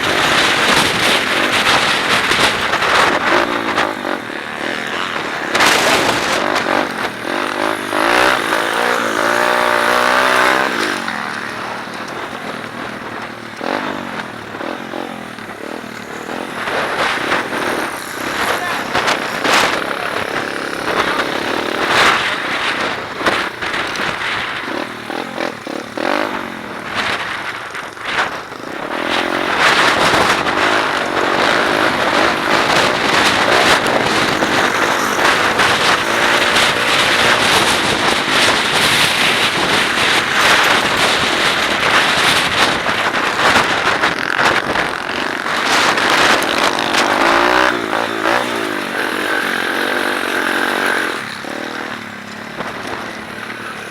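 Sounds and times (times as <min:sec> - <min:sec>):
pit bike engine revving: 0:00.0 - 0:53.9.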